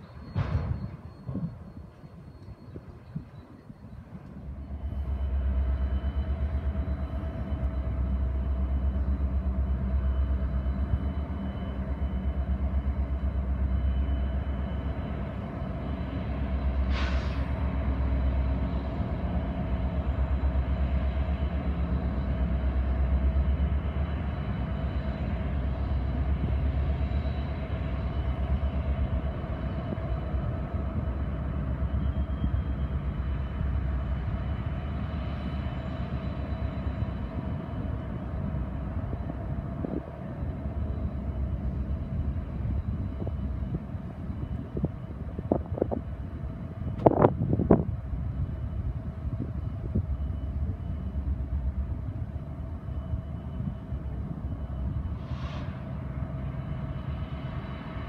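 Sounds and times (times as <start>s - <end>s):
freight train rumble: 0.0s - 58.0s.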